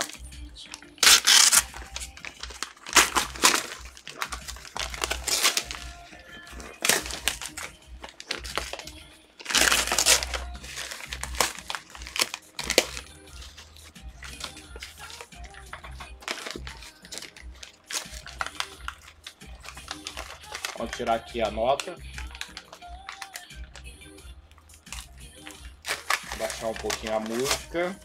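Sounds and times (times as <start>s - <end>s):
paper wrapping tearing: 0.0s - 6.0s, 6.6s - 23.5s, 24.9s - 27.9s
music playing: 0.0s - 28.0s.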